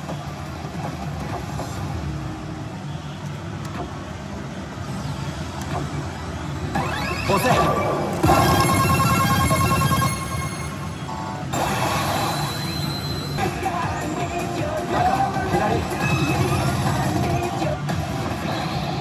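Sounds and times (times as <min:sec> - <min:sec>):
gaming hall din: 0:00.0 - 0:19.0.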